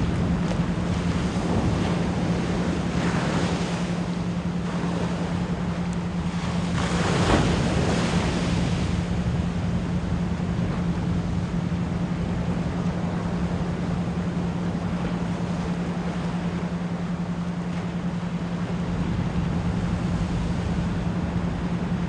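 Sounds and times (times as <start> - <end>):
ocean waves washing: 0.0 - 22.0
steady low pure tone: 0.0 - 22.0.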